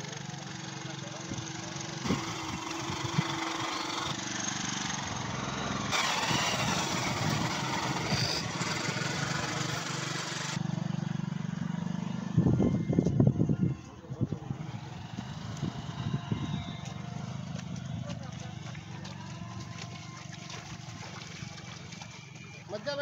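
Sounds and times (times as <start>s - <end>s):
broad outdoor noise: 0.0s - 23.0s
small engine running: 0.0s - 23.0s.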